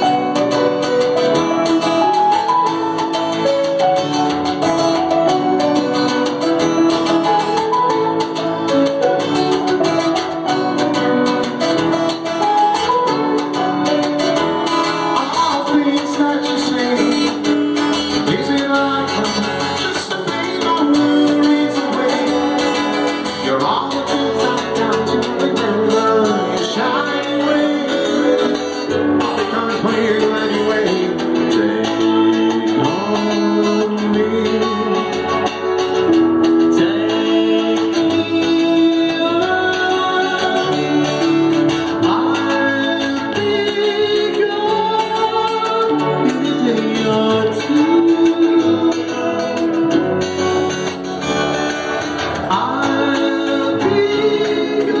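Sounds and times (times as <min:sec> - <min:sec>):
guitar playing held notes: 0:00.0 - 0:55.0
person singing: 0:07.1 - 0:55.0.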